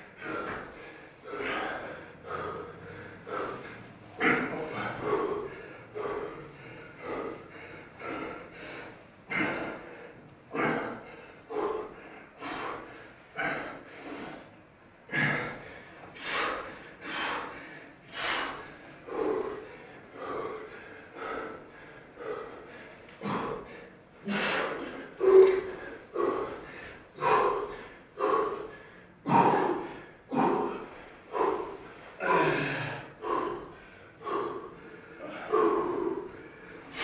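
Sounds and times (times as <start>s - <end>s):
person breathing hard: 0.0s - 37.0s.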